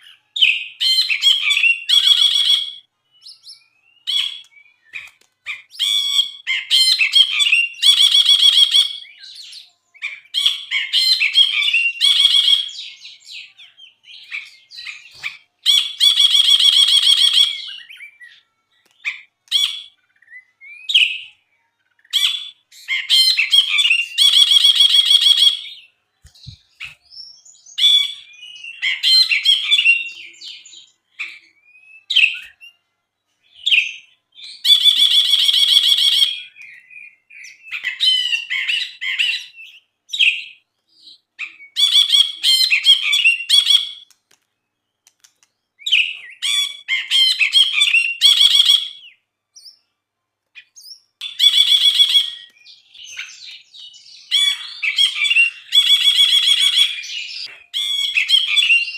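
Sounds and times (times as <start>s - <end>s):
bird chirps and whistles: 0.2s - 18.4s, 19.0s - 21.4s, 22.0s - 32.8s, 33.5s - 44.1s, 45.8s - 49.9s, 50.6s - 58.9s.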